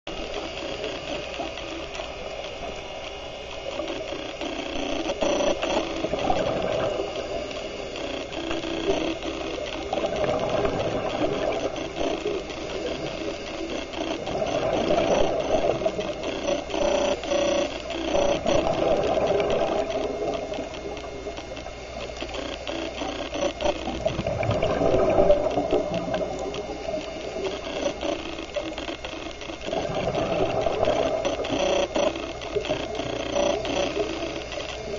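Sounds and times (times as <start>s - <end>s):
exhaled bubbles: 5.2s - 17.2s, 18.1s - 34.9s.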